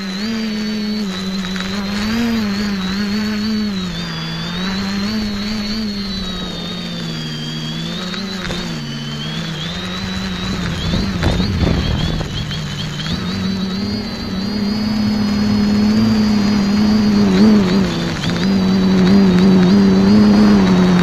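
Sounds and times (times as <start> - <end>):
drone motors humming and whining: 0.0 - 21.0.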